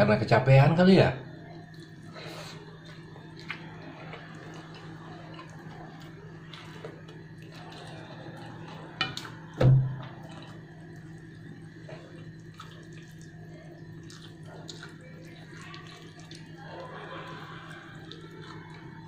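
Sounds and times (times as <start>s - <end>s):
steady low hum: 0.0s - 19.0s
chewing and mouth sounds: 1.5s - 19.0s.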